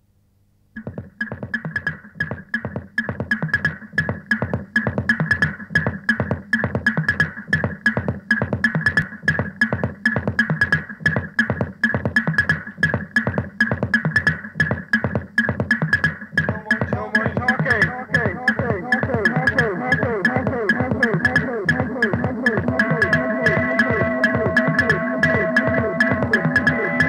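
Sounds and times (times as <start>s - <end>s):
lo-fi repeating instrumental music: 0.8s - 27.0s.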